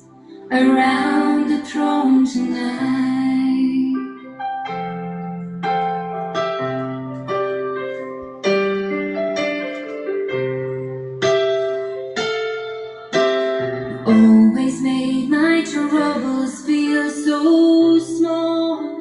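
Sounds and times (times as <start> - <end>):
slow solo piano chords: 0.0 - 19.0.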